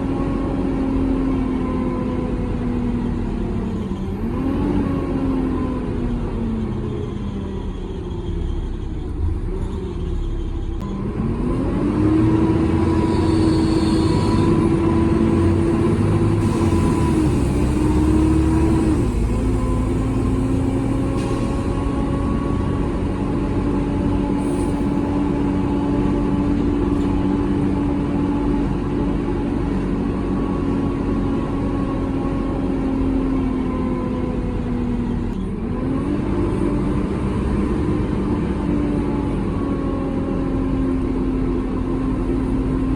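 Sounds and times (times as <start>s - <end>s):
bus engine and gearbox whine: 0.0s - 42.9s.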